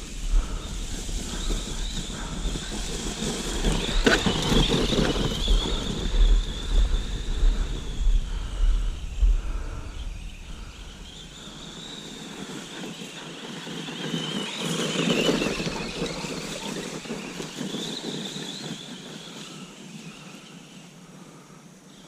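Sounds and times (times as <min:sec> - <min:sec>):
rc truck motor whining: 0:00.0 - 0:09.0, 0:09.9 - 0:20.5
wind rumbling on microphone: 0:00.0 - 0:20.4.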